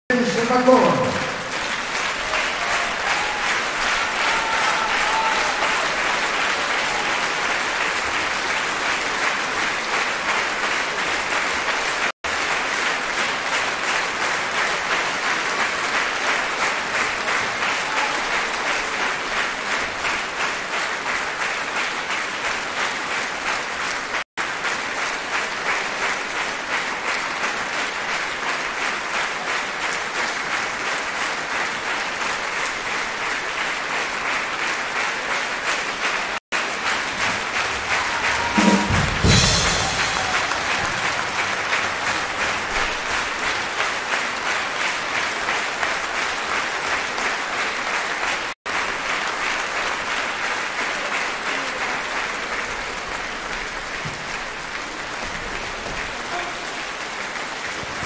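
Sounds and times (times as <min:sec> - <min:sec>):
audience applauding: 0:00.1 - 0:58.0
rhythmic unison clapping: 0:00.2 - 0:58.0.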